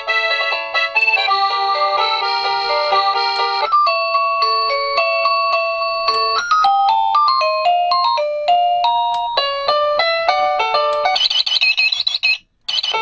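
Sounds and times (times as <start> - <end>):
electronic doorbell melodies: 0.2 - 13.0.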